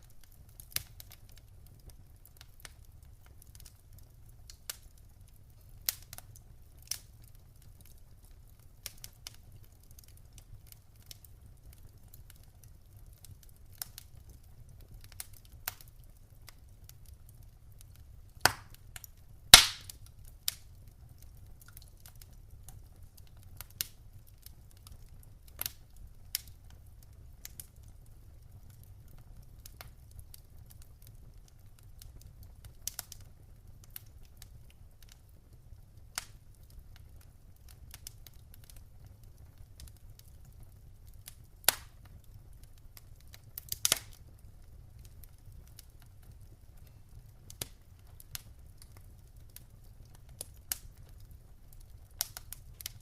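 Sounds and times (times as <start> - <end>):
low steady background noise: 0.0 - 53.0
wood fire crackling: 0.0 - 53.0.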